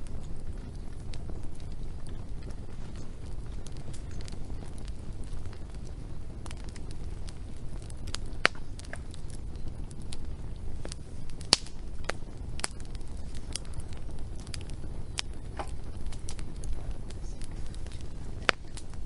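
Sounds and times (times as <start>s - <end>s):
low rumble of fire: 0.0s - 19.0s
sharp fire pops: 0.0s - 19.0s.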